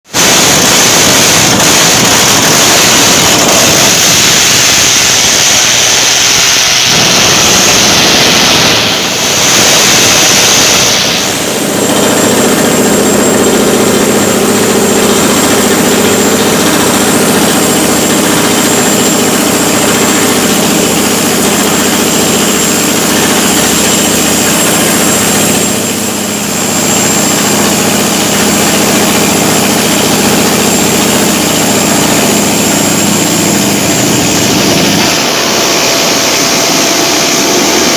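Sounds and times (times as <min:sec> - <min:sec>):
droning machine hum: 0:00.1 - 0:37.9
harsh steady hiss: 0:00.1 - 0:37.9.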